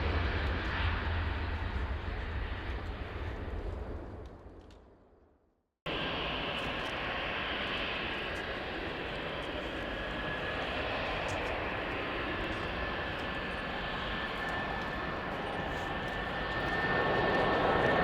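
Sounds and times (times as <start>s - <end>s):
jet engines rushing and whining: 0.0s - 4.7s, 5.9s - 18.0s.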